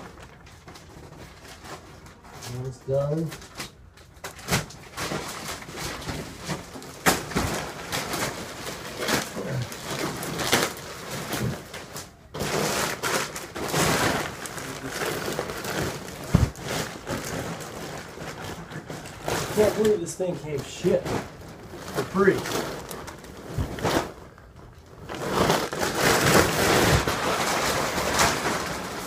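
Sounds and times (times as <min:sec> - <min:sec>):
plastic wrapping crinkling: 0:00.0 - 0:29.0.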